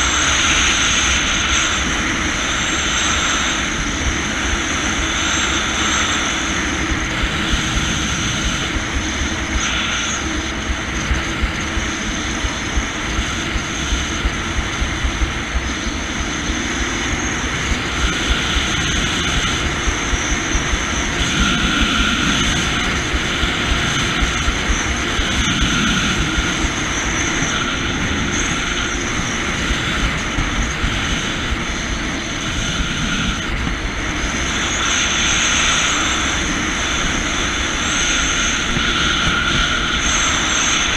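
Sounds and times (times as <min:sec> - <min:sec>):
jet ski engine running: 0:00.0 - 0:40.9
wind rumble on microphone: 0:00.0 - 0:40.9.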